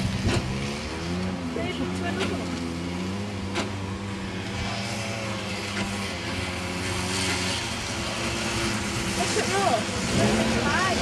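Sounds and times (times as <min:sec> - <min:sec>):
snowmobile engines droning: 0:00.0 - 0:11.0
snowmobile hiss passing close: 0:00.0 - 0:11.0.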